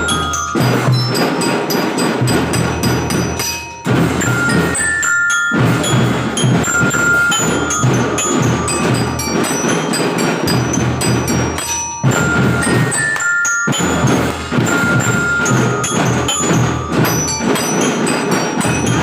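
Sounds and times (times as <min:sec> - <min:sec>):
bell lyra melody: 0:00.0 - 0:19.0
drums: 0:00.0 - 0:19.0.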